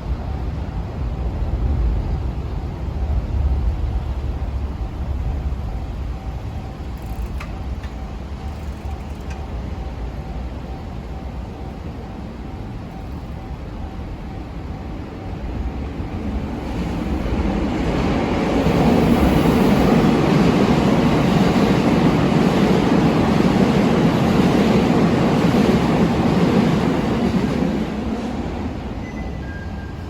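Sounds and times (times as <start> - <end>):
crossing warning bell dinging: 0.0 - 17.5, 19.4 - 30.0
train rushing rumble: 0.0 - 30.0.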